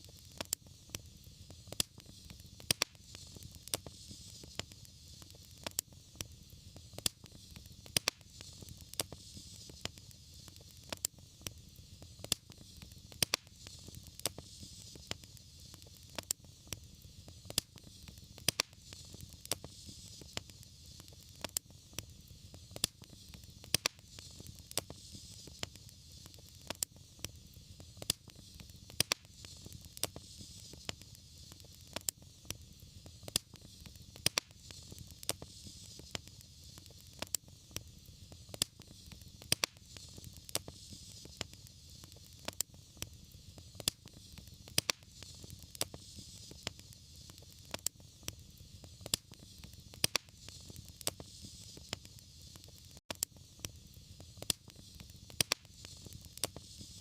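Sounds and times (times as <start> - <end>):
fire crackling and popping: 0.0 - 57.0
wood fire burning: 0.0 - 57.0.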